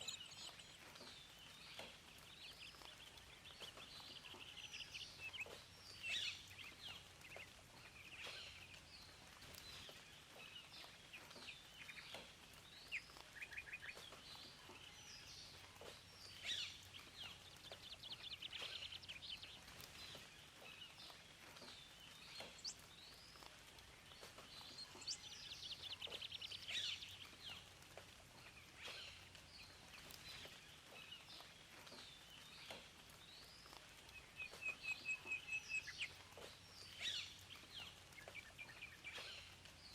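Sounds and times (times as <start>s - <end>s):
soft background hiss: 0.0s - 39.9s
songbirds chirping and singing: 0.0s - 39.9s.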